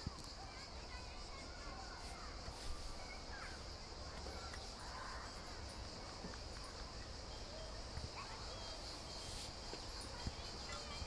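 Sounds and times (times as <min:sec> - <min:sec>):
high insect drone: 0:00.0 - 0:11.0
bird calls and chirps: 0:01.2 - 0:11.0.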